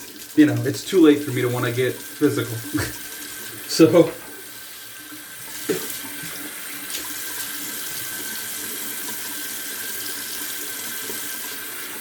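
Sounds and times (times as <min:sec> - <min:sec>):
water running from sink tap: 0:00.0 - 0:12.0.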